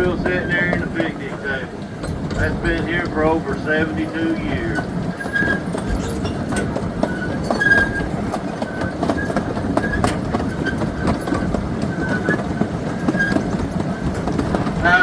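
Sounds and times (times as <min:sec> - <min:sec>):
train rumbling: 0:00.0 - 0:15.0
wheels clicking over rails: 0:00.0 - 0:15.0
wheels squealing: 0:00.0 - 0:15.0.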